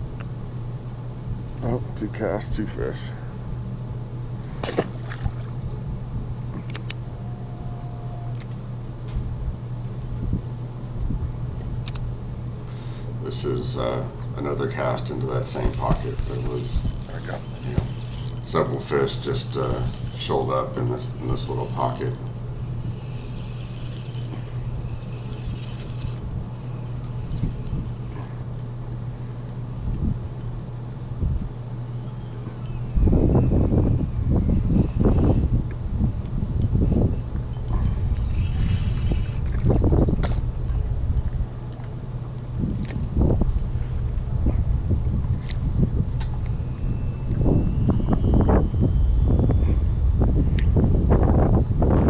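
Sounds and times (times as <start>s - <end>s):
low wind rumble: 0.0s - 52.0s
boat motor humming: 3.2s - 49.3s.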